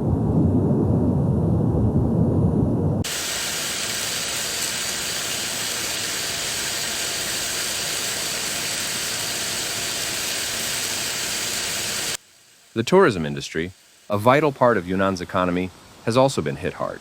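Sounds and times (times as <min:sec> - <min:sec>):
water rushing: 0:03.0 - 0:16.9.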